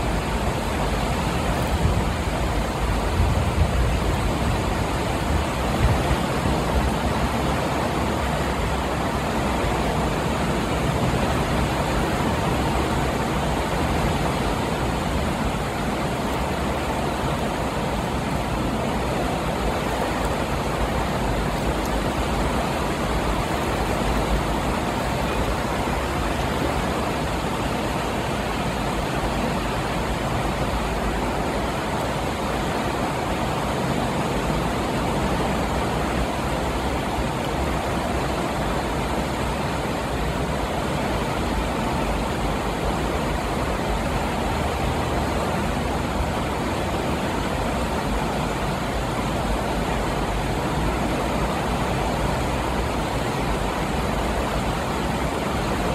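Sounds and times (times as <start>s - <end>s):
flooded river rushing: 0.0s - 55.9s.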